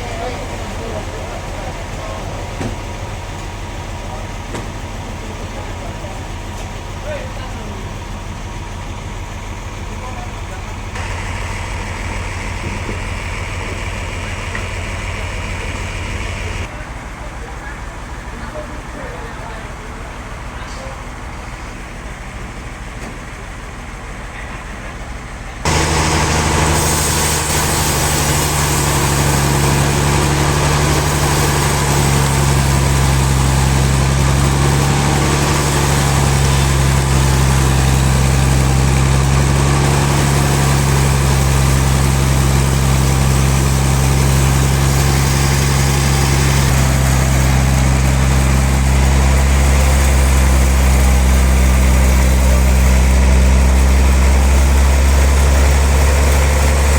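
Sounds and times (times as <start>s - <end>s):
heavy machinery droning: 0.0s - 24.8s, 25.4s - 56.9s.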